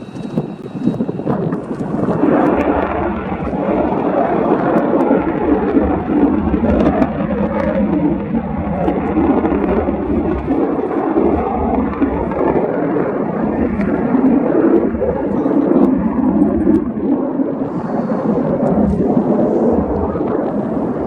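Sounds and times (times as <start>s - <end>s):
jets roaring overhead: 0.0s - 21.0s.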